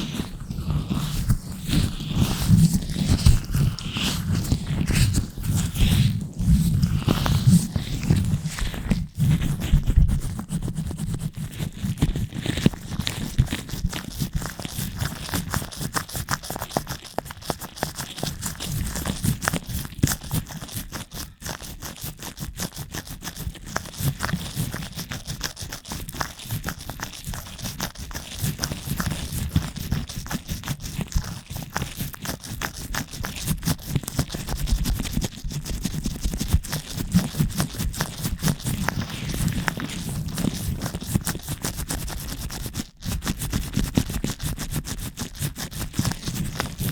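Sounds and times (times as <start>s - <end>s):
gloved fingers scratching microphone: 0.0s - 46.9s.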